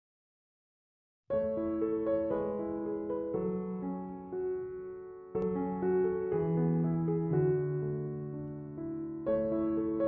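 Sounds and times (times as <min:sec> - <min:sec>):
piano chords: 0:01.3 - 0:10.0.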